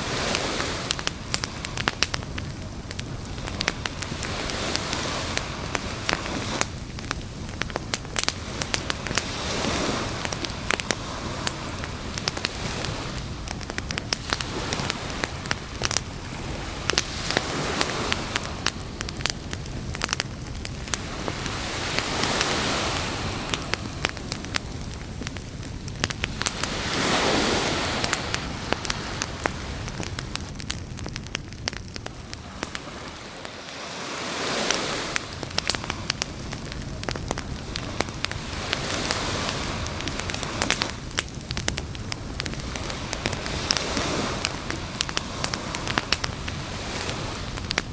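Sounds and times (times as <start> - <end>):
campfire crackling and popping: 0.0 - 47.9
waves washing on beach: 0.0 - 47.9.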